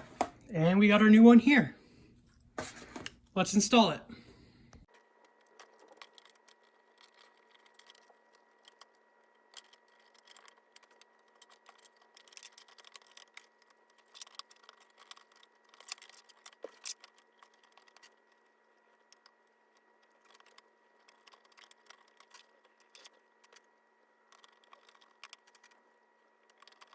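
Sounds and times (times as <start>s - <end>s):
faint electrical hum: 0.0s - 26.9s.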